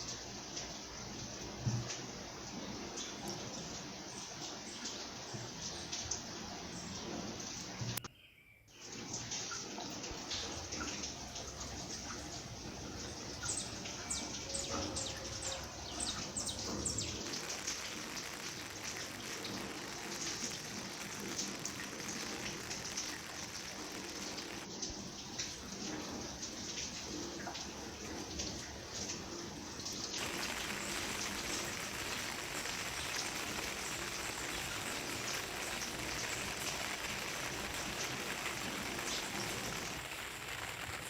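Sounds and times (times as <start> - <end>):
steady rain falling: 0.0 - 8.0, 8.8 - 41.0.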